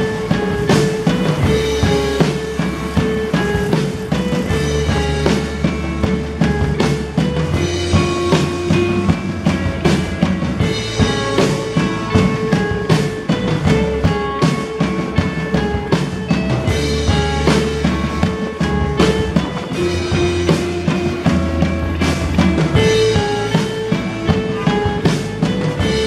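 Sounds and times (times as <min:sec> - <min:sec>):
drum kit beat: 0:00.0 - 0:26.0
rock band playing: 0:00.0 - 0:26.0.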